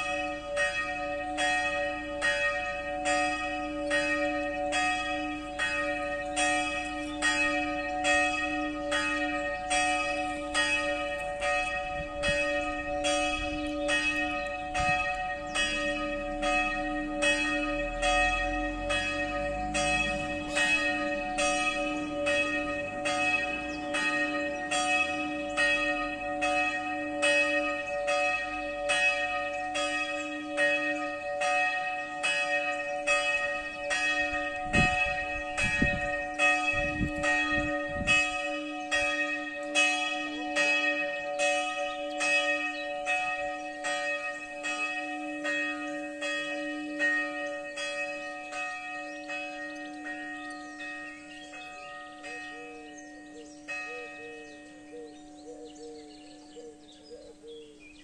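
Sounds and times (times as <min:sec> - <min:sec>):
church bell ringing: 0:00.0 - 0:57.2.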